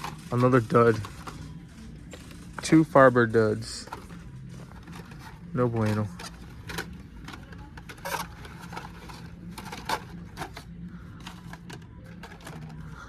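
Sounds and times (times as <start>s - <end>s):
low store hum: 0.0s - 13.0s
plastic packaging clicks and scrapes: 0.0s - 13.0s.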